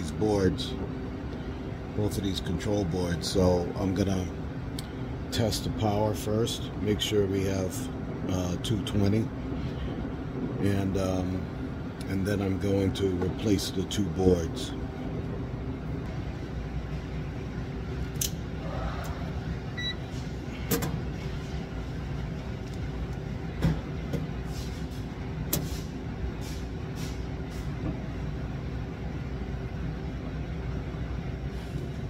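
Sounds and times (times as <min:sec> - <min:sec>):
machinery hum with tones: 0:00.0 - 0:32.0.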